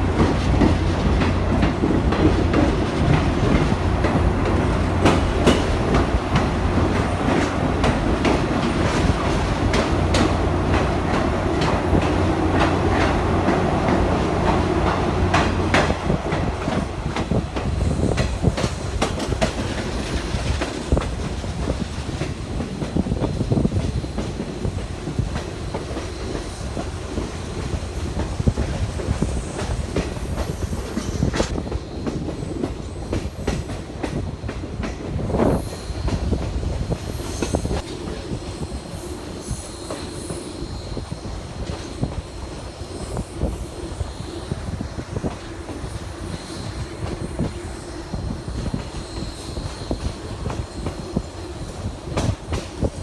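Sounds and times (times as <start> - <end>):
train rumble: 0.0 - 53.0
train wheels clicking on rail joints: 0.0 - 53.0.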